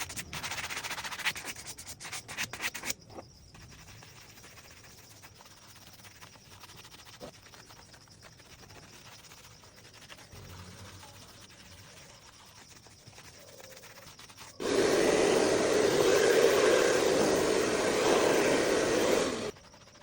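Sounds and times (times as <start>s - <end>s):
brush on leather shoe: 0.0s - 20.0s
rubbing and scratching leather: 0.0s - 20.0s.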